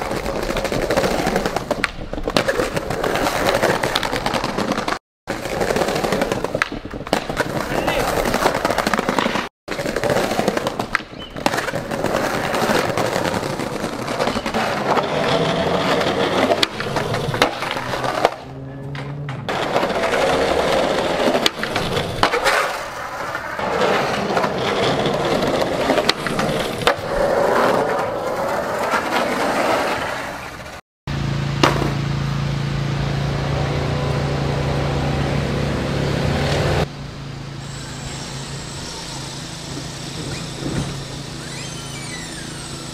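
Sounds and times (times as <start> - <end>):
skateboard wheels rolling on pavement: 0.0 - 42.9.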